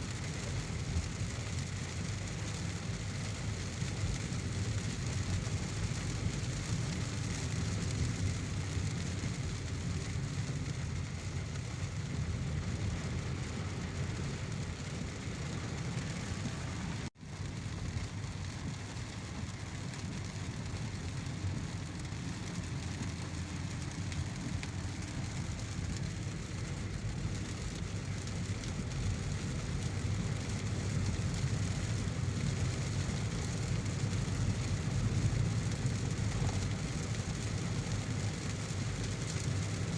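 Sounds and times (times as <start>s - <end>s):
rain hiss on car: 0.0s - 39.9s
road and engine rumble: 0.0s - 39.9s.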